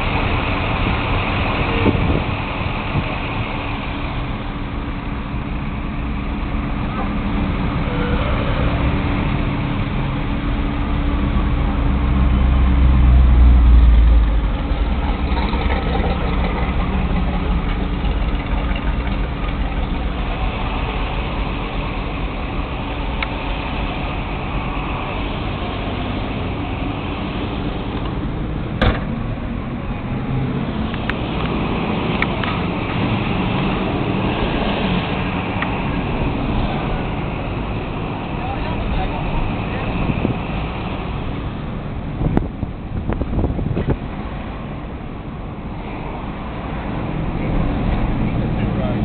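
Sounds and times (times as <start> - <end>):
car engines idling: 0.0 - 49.0
deep low rumble: 0.8 - 44.4.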